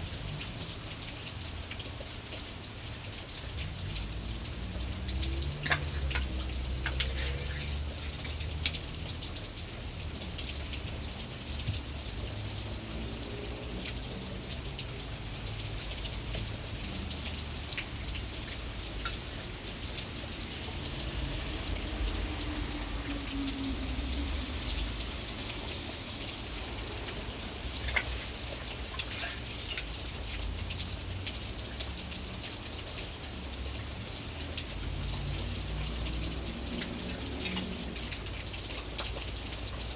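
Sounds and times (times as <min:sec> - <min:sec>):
heavy rain pouring: 0:00.0 - 0:39.9
raindrops tapping on surfaces: 0:00.0 - 0:39.9.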